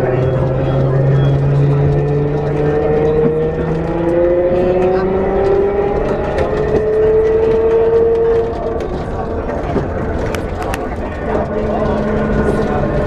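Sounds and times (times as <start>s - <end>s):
rumble of tram ride: 0.0s - 13.0s
tram electric drive whining: 0.0s - 13.0s.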